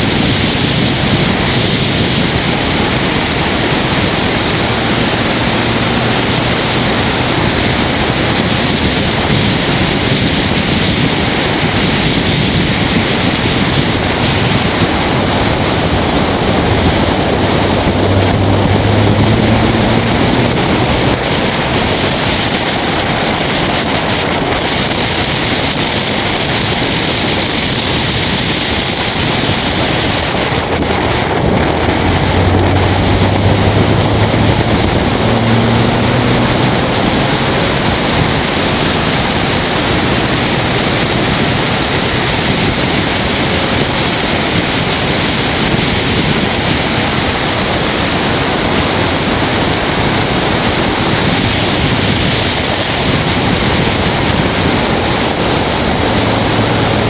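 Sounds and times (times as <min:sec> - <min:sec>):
race car engine: 0:00.0 - 0:57.0
wind rushing over microphone: 0:00.0 - 0:57.0.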